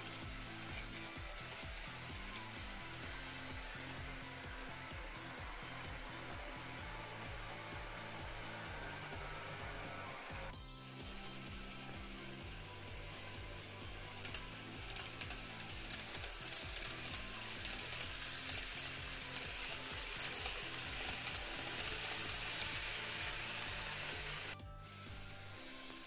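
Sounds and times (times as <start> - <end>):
model train hissing rush: 0.0 - 10.5, 11.2 - 24.6
wheels clicking on track: 0.0 - 24.6
background music: 0.0 - 26.0.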